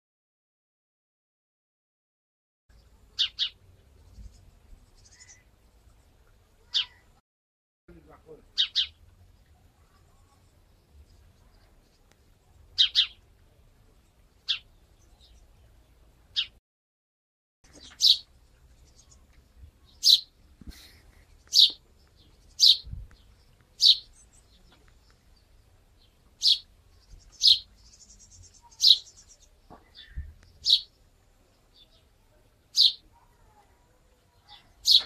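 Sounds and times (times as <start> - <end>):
bird chirping: 2.7 - 7.2, 8.0 - 16.6, 17.6 - 33.5, 34.3 - 35.0.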